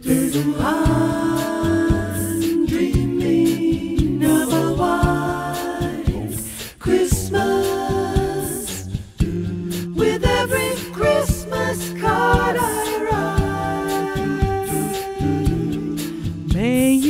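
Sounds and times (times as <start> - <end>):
a cappella voices singing: 0.0 - 17.0.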